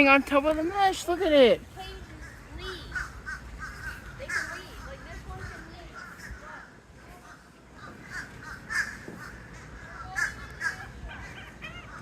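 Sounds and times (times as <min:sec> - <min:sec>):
crows cawing: 0:01.1 - 0:12.0.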